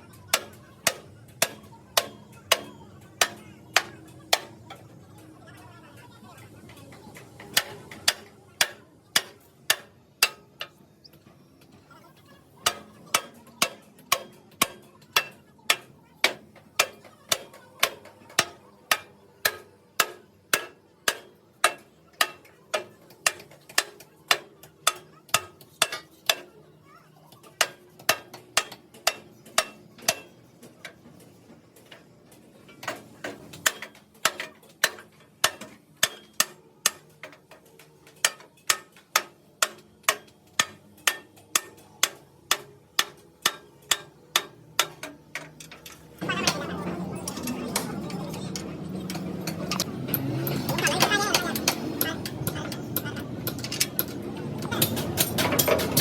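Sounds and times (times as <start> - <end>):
hammer striking steel: 0.2 - 4.9, 6.9 - 11.3, 12.2 - 32.0, 32.8 - 56.0.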